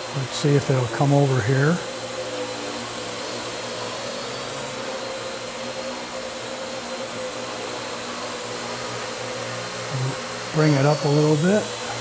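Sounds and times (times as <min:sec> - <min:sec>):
quadcopter drone hovering whine: 0:00.0 - 0:12.0.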